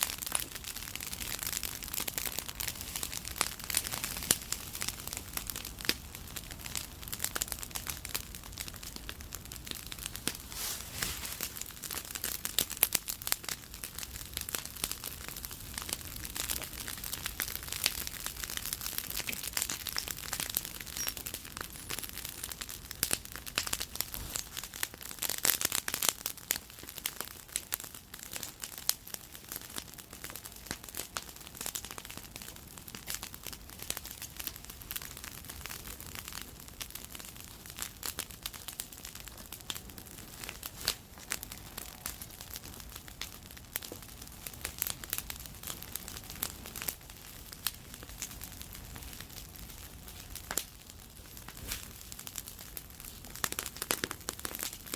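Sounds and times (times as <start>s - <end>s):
bonfire crackling: 0.0s - 54.9s.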